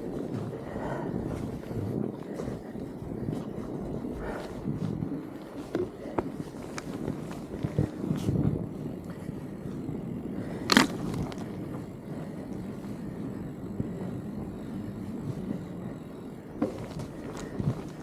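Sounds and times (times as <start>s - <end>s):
bike tyres rumbling on dirt: 0.0s - 18.0s.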